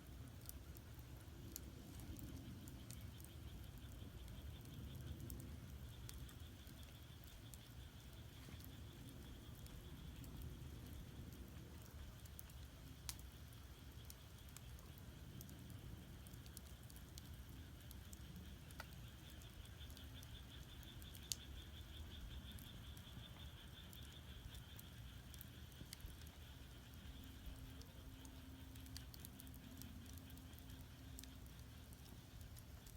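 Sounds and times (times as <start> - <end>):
fire popping: 0.0 - 32.9
firewood crackling: 0.0 - 32.9.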